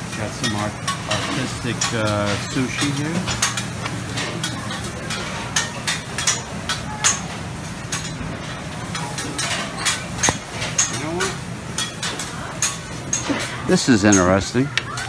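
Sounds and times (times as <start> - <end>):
dishes and utensils clinking: 0.0 - 15.0
restaurant room noise: 0.0 - 15.0.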